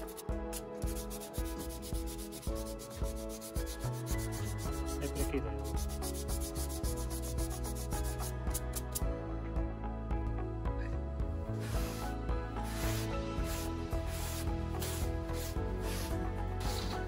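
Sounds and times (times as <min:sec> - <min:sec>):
sanding rubbing strokes: 0:00.0 - 0:08.8, 0:11.6 - 0:17.0
background music: 0:00.0 - 0:17.0.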